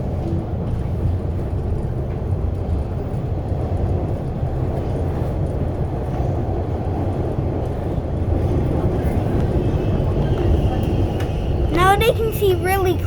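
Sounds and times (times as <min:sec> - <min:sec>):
subway car rumble: 0:00.0 - 0:13.0.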